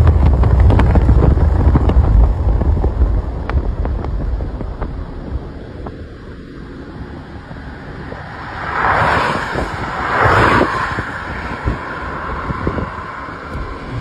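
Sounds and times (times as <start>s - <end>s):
car road and wind rumble: 0.0s - 14.0s
rushing wind noise: 0.0s - 14.0s.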